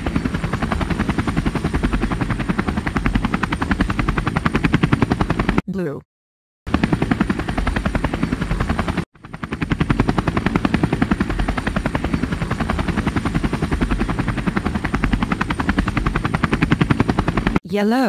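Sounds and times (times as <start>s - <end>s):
helicopter rotor chopping: 0.0s - 5.6s, 6.7s - 17.6s.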